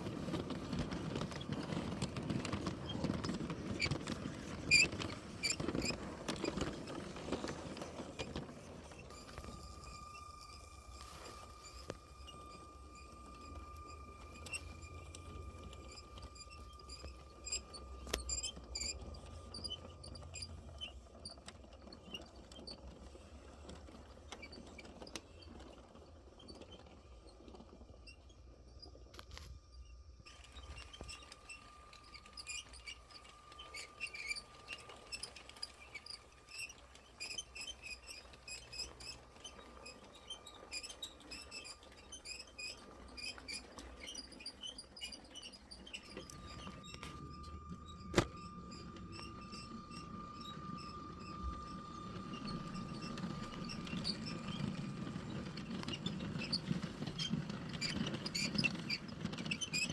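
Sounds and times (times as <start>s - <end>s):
toy train wheels clicking on track: 0.0s - 28.0s, 30.3s - 59.9s
faint motor whine: 0.0s - 59.9s.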